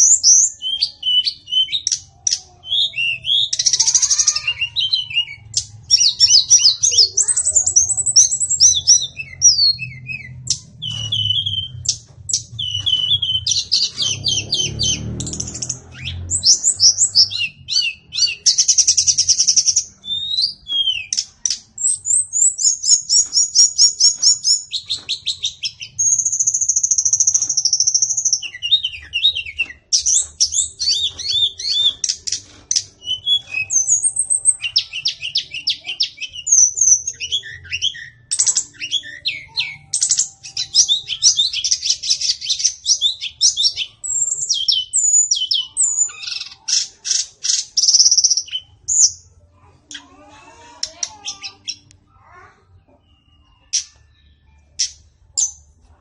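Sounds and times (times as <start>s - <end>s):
songbird singing trills: 0.0s - 55.8s.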